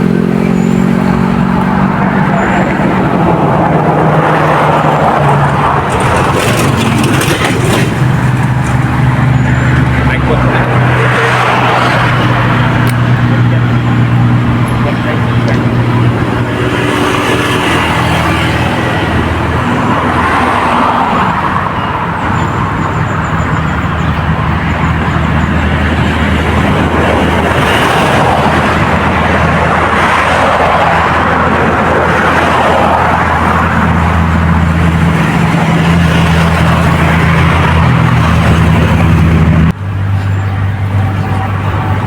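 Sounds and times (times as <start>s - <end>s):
low engine hum: 0.0s - 42.0s
motor vehicles passing: 0.0s - 42.0s.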